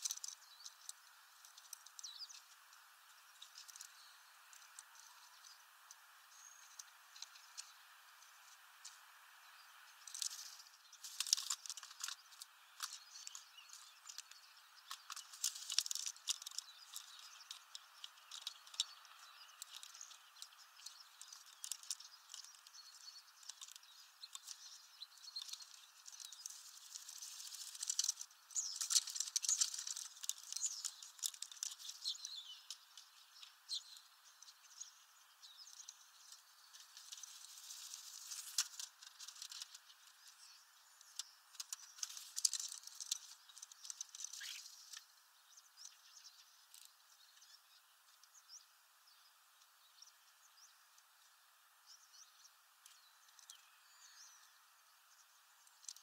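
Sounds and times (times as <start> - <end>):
wing flutter: 0.0 - 45.2
soft high bird chatter: 0.0 - 56.0.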